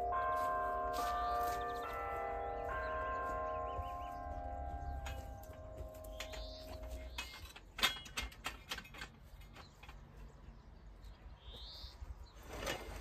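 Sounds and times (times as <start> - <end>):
bird chirp: 1.0 - 8.1, 9.2 - 12.8.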